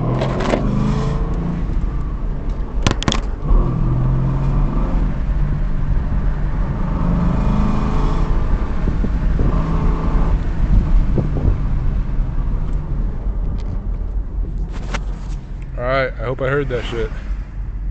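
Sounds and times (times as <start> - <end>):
car engine revving: 0.0 - 17.6.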